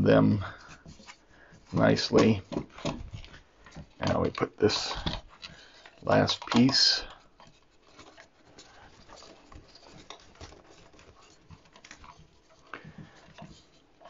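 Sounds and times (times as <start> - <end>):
small clicks and rustles of wires: 0.4 - 14.0.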